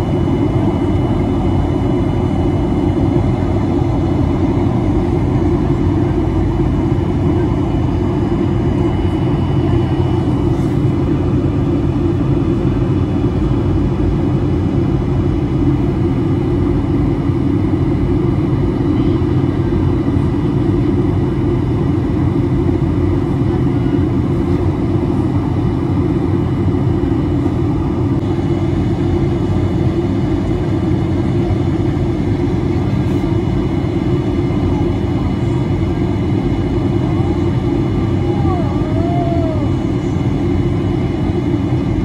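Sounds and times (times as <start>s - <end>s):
jet airliner cabin noise: 0.0s - 42.0s.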